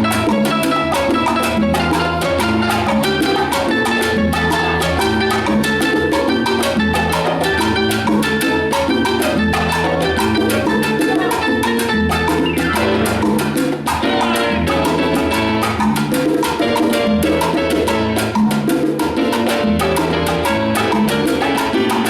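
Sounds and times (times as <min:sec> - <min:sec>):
salsa band playing live: 0:00.0 - 0:22.0.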